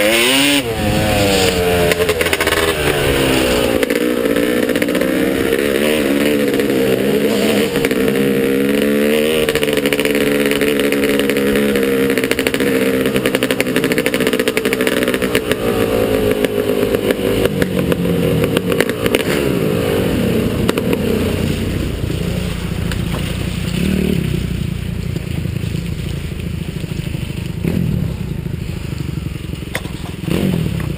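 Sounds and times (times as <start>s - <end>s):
engine rumble with rattling: 0.0s - 30.9s
motorcycle engine revving: 0.0s - 30.9s.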